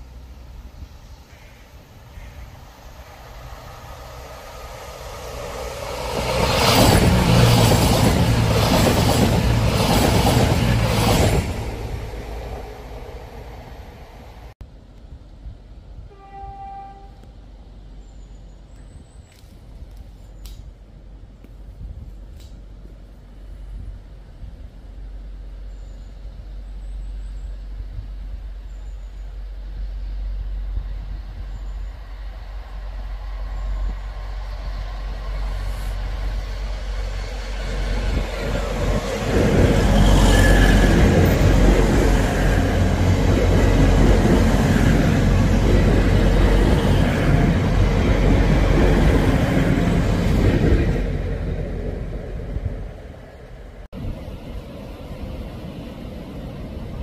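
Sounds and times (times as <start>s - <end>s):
passenger train passing: 0.0s - 57.0s.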